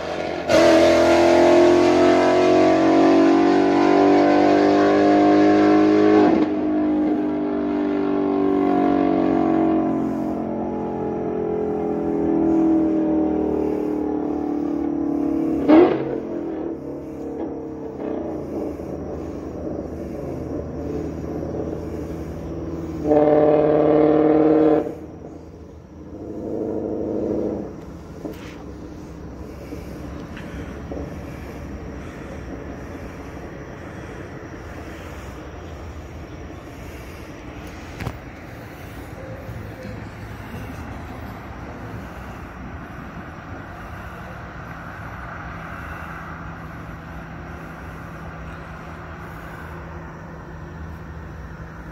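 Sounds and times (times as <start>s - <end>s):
car engine approaching: 0.0s - 51.9s
loud vehicle drone: 0.0s - 51.9s
road and traffic noise: 0.0s - 51.9s.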